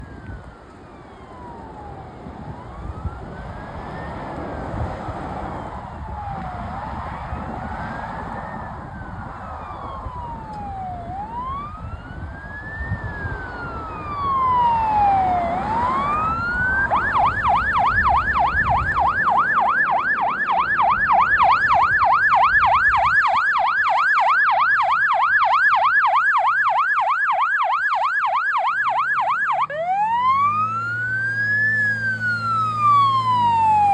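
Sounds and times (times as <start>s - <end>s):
fire engine siren wail and yelp: 0.0s - 33.9s.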